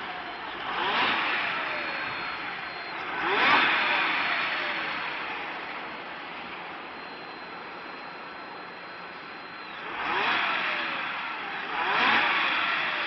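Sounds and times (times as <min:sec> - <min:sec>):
car engine revving: 0:00.0 - 0:13.0
high steady squeal: 0:00.0 - 0:13.0.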